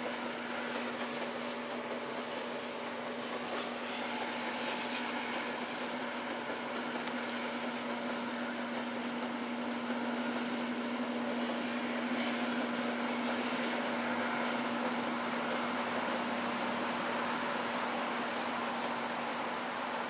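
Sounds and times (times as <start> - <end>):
steel wheels rolling on rail: 0.0 - 20.0.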